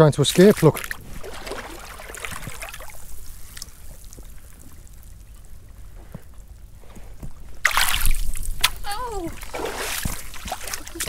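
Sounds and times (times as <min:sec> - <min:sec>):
seawater trickling and lapping: 0:00.0 - 0:11.0.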